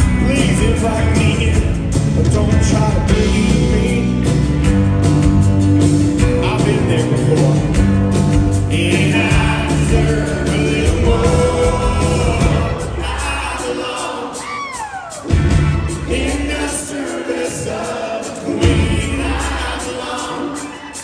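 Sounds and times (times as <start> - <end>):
man singing lead vocal: 0.0 - 4.5, 6.2 - 7.9, 8.6 - 15.0, 15.9 - 21.0
live rock band through speakers: 0.0 - 21.0.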